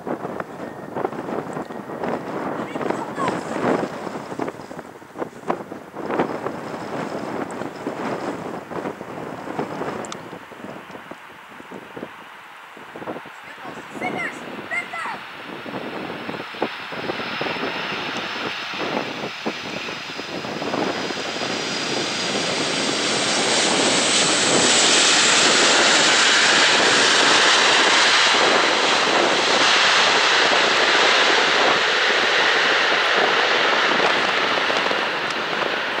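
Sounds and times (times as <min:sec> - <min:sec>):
jet airliner landing: 0:00.0 - 0:36.0.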